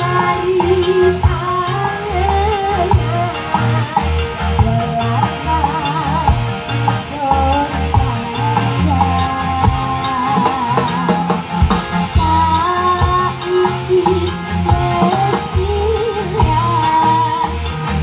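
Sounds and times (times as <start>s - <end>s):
loud music through sound system: 0.0s - 18.0s.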